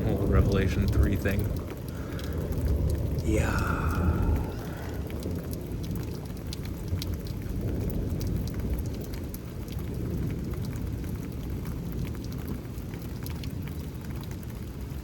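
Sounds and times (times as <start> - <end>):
continuous low rumble: 0.0 - 14.4
rain drops ticking: 0.0 - 15.0.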